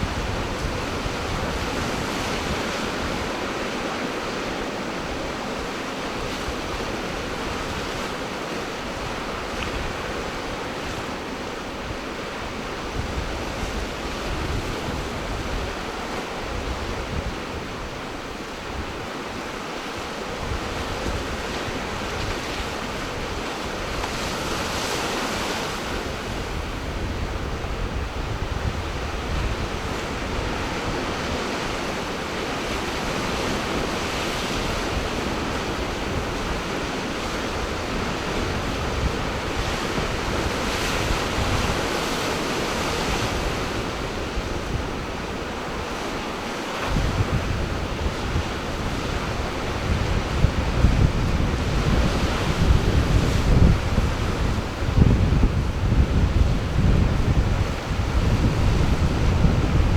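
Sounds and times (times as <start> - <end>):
ocean surf washing on shore: 0.0 - 59.9
wind rumbling on microphone: 0.0 - 59.9.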